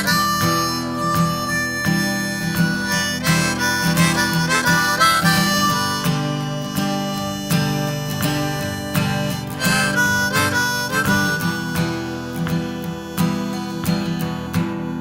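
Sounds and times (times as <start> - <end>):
harmonica melody: 0.0 - 15.0
strummed guitar chords: 0.0 - 15.0.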